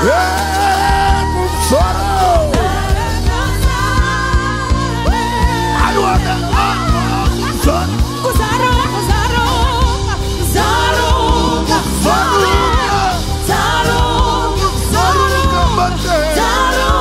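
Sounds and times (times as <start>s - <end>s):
band with drums and bass: 0.0s - 17.0s
voices singing together: 0.0s - 17.0s.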